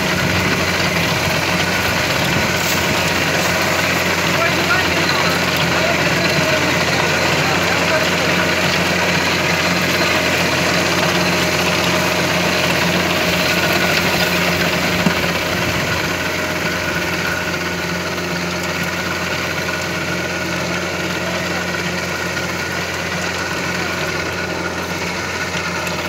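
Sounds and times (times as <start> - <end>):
rotary tiller in soil: 0.0 - 26.0
tractor diesel engine running: 0.0 - 26.0.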